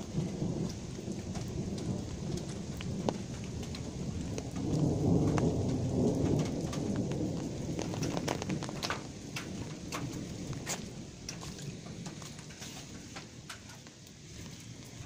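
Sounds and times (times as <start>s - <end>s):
rain drops ticking close by: 0.0s - 15.0s
steady rain: 0.0s - 15.0s
thunder rumbling: 0.0s - 15.0s.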